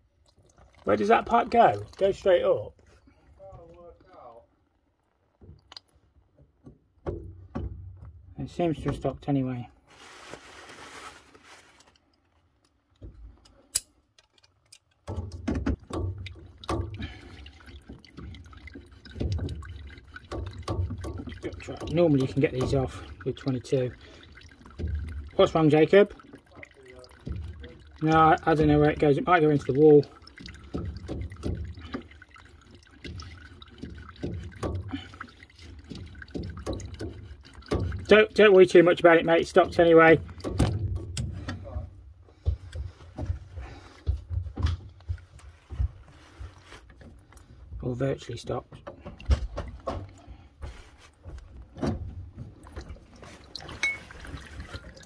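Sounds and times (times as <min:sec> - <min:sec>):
water trickling and dripping: 0:00.0 - 0:09.6, 0:11.8 - 0:55.0.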